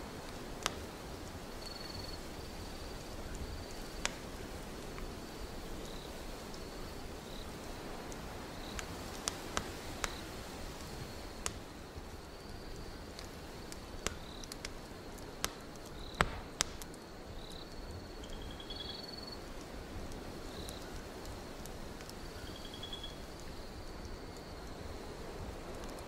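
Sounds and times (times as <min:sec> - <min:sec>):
crickets chirping: 0:00.0 - 0:26.0
wind hissing: 0:00.0 - 0:26.0
wood fire crackling and popping: 0:00.0 - 0:26.0.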